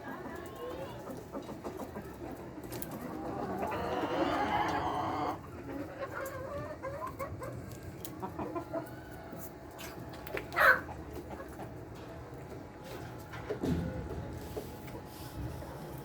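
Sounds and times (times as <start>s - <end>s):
hens clucking: 0.0s - 13.3s.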